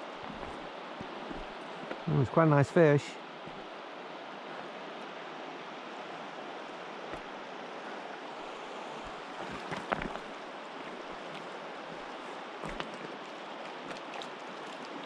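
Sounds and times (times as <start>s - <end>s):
river water rushing over stones: 0.0s - 15.0s.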